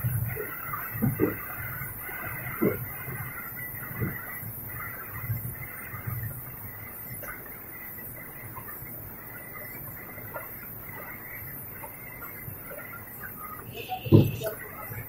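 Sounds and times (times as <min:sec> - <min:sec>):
filling machine humming: 0:00.0 - 0:15.0.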